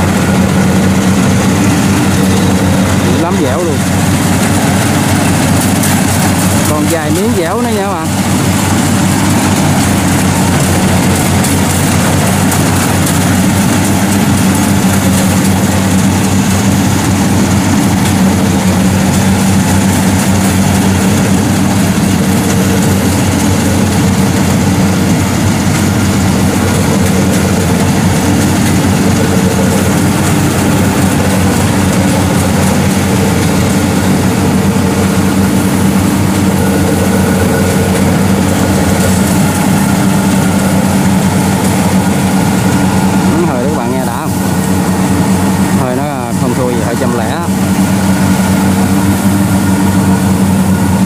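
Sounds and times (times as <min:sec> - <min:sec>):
diesel engine running loudly: 0:00.0 - 0:51.0.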